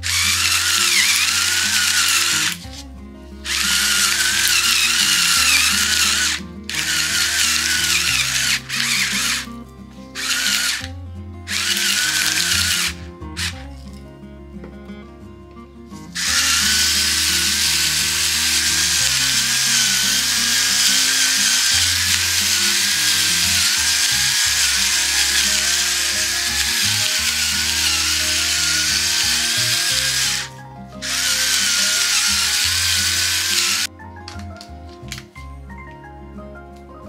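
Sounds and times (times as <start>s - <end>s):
electric pepper mill grinding: 0.0s - 14.1s, 16.0s - 35.3s
soft background music: 0.0s - 37.0s.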